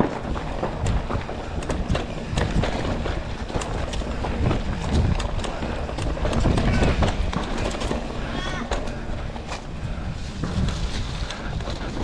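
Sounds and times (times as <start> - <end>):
bike rattling clicks and knocks: 0.0 - 12.0
tyres rumbling on dirt: 0.0 - 12.0
wind buffeting microphone: 0.0 - 12.0.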